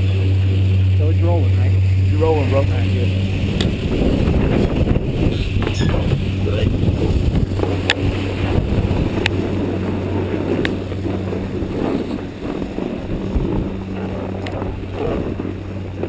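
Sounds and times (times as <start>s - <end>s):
low hum: 0.0s - 16.0s
wind buffeting microphone: 0.0s - 16.0s.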